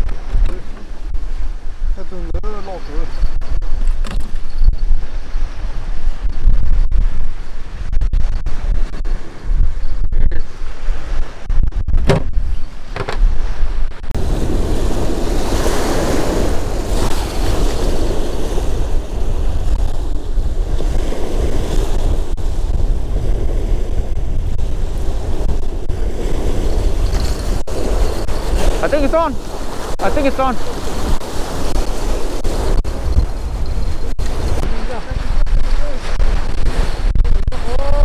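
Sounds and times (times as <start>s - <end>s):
choppy water: 0.0s - 38.0s
wind buffeting microphone: 0.0s - 38.0s.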